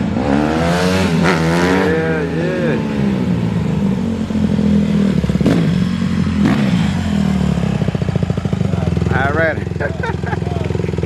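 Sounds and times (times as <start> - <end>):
dirt bike engine revving and idling: 0.0 - 11.0.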